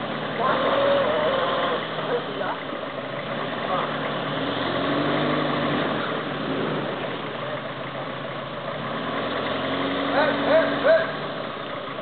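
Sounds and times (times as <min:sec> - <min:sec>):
off-road vehicle engine running low: 0:00.0 - 0:12.0.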